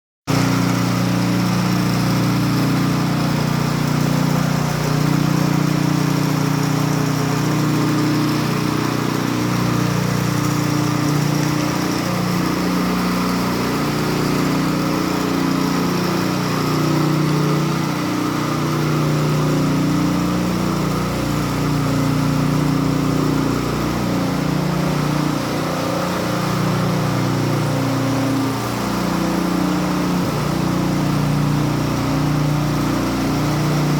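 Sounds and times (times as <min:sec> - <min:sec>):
small petrol engine running: 0:00.3 - 0:33.9.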